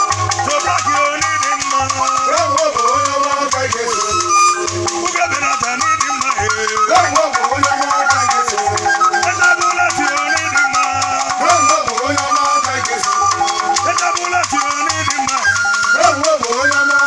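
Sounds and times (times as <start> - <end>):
wavering melodic line: 0.0 - 17.0.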